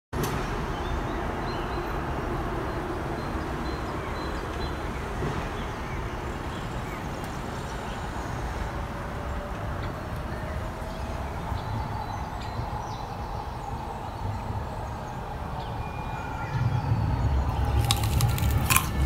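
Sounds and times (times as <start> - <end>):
road traffic rumble: 0.2 - 19.0.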